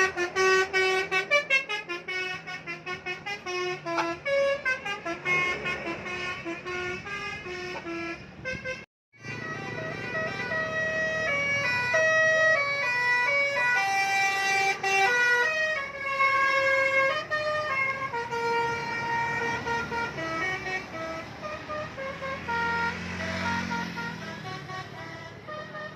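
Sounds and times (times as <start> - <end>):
musical air horns playing tune: 0.0 - 25.9.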